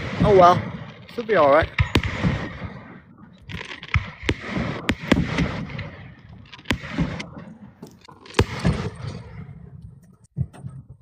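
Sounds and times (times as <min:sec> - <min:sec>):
fireworks crackling: 0:00.0 - 0:09.4
fireworks bangs: 0:00.0 - 0:11.0.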